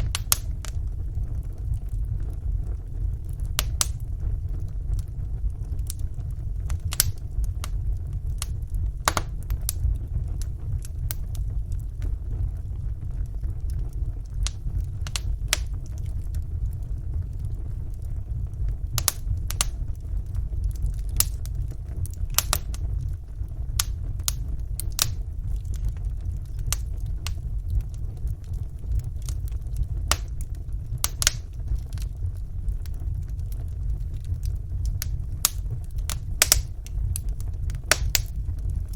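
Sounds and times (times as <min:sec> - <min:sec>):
fire flames rumbling: 0:00.0 - 0:38.9
logs crackling and popping: 0:00.0 - 0:38.9.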